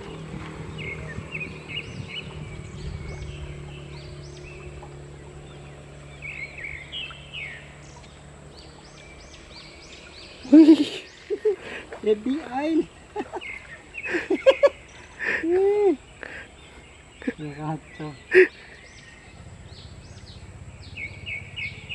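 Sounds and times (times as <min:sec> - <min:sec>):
birds chirping: 0:00.0 - 0:21.9
low steady hum: 0:00.0 - 0:21.9
small stream flowing: 0:00.0 - 0:21.9.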